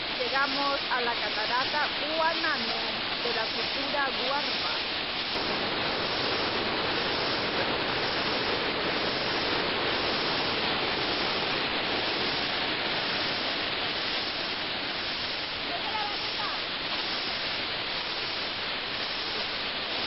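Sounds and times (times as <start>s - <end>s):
white water rushing over rocks: 0.0s - 20.0s.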